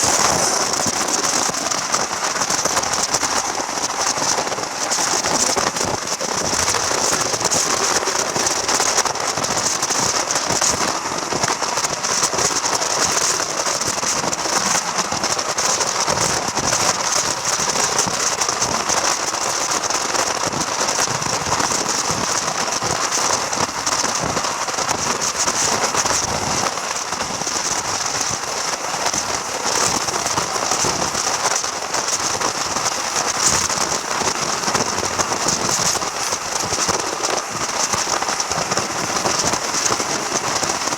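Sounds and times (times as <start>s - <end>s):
train running hiss: 0.0s - 40.9s.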